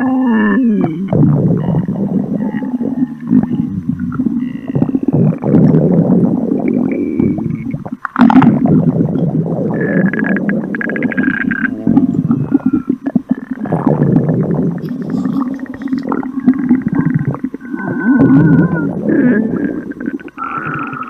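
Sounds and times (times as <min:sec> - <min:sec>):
stomach gurgling rumbles: 0:00.0 - 0:21.0.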